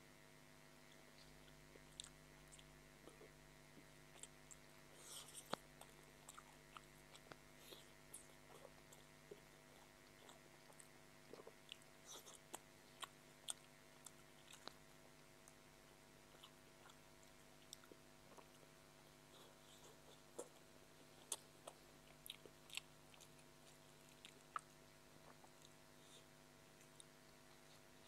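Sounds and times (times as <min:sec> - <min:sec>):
person chewing with mouth clicks: 0:01.2 - 0:18.7, 0:19.3 - 0:27.9.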